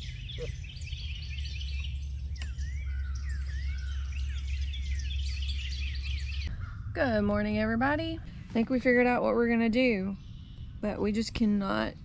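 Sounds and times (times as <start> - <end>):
songbirds chirping and singing: 0.0 - 12.0
steady low rumble: 0.0 - 12.0.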